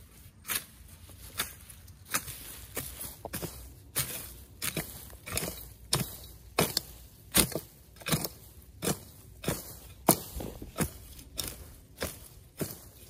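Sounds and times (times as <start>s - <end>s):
hand tool chopping: 1.3s - 13.0s.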